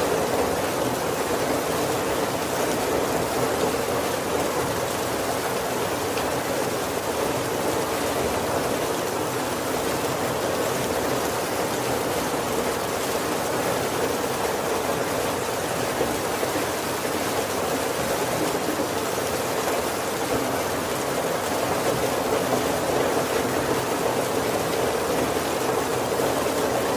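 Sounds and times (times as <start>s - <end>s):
heavy rain on a wooden roof: 0.0s - 26.9s.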